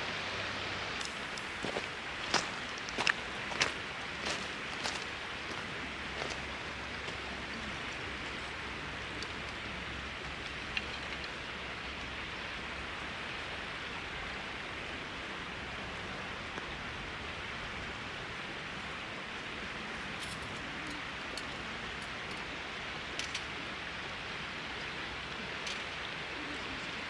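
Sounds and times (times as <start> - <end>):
flowing river water: 0.0 - 27.0.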